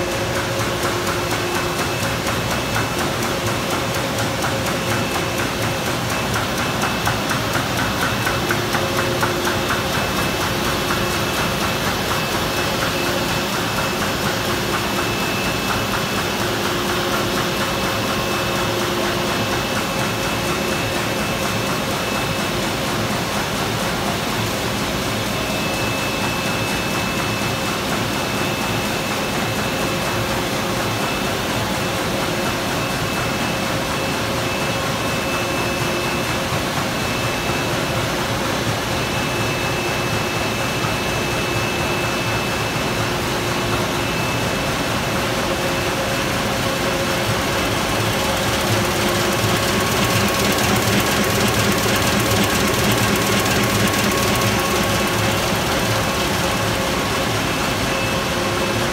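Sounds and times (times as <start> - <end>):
printing press clatter: 0.0 - 58.9.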